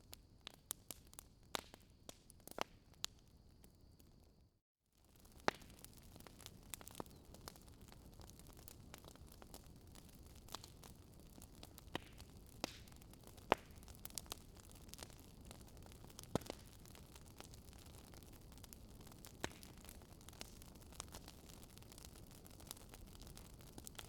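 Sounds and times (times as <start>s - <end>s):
fire crackling and popping: 0.0s - 4.4s, 5.0s - 24.0s.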